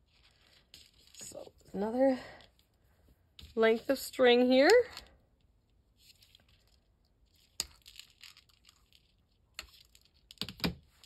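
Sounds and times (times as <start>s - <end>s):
soft rustling of craft supplies: 0.0s - 11.0s.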